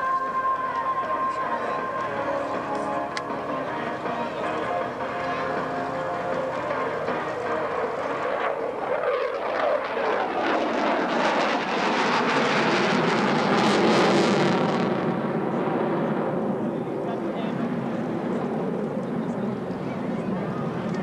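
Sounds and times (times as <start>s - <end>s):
jet fighter flying past: 1.9s - 21.0s.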